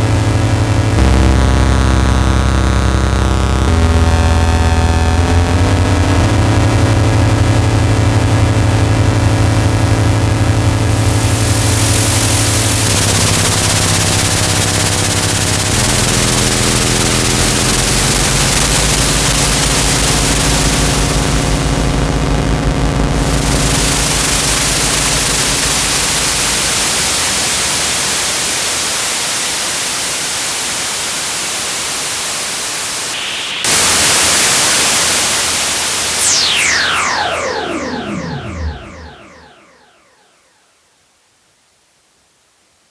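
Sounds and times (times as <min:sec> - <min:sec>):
low synthesizer drone: 0:00.0 - 0:28.4, 0:33.7 - 0:40.2
synthesizer hiss: 0:00.0 - 0:40.3.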